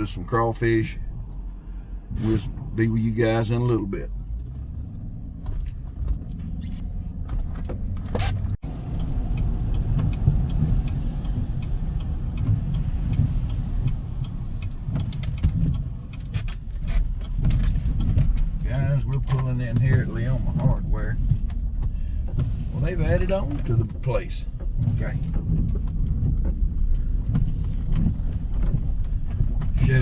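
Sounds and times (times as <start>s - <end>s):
truck engine and road rumble: 0.0s - 30.0s.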